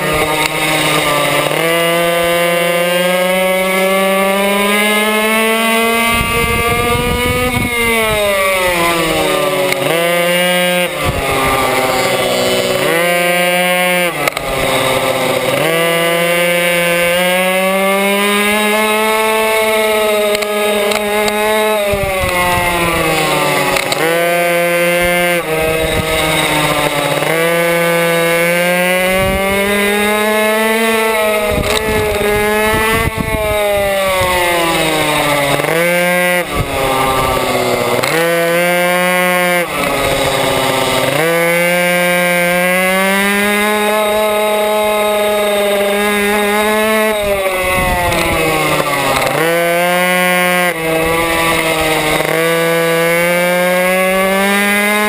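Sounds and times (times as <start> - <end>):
two-stroke engine at full throttle: 0.0 - 55.0.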